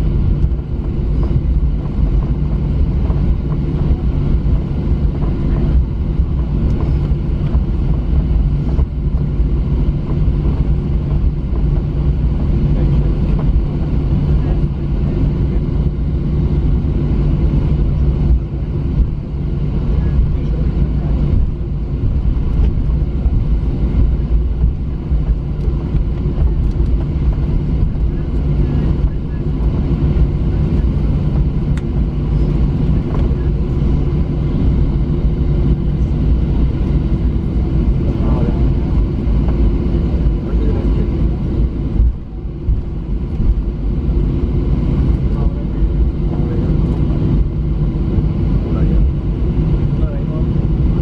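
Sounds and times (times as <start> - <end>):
aircraft wheels rolling: 0.0 - 51.0
jet engines low rumble: 0.0 - 51.0.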